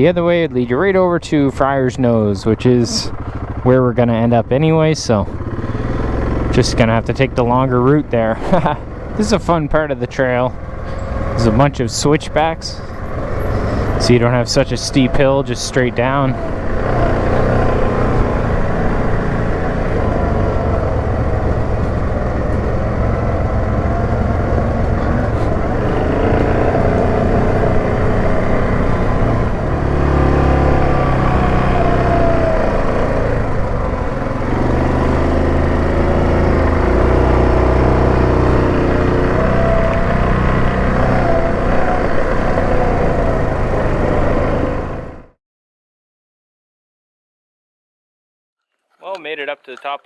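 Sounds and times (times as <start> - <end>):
atv engine running: 0.0 - 45.3.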